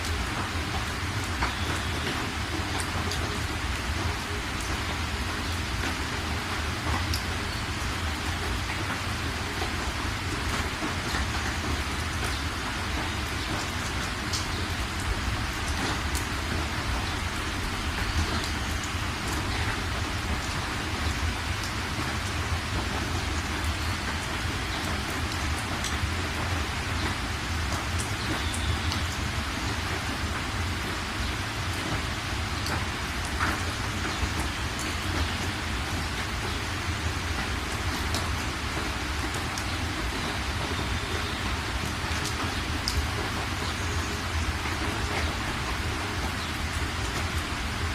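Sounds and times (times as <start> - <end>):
raindrops ticking: 0.0 - 47.9
steady rain falling: 0.0 - 47.9.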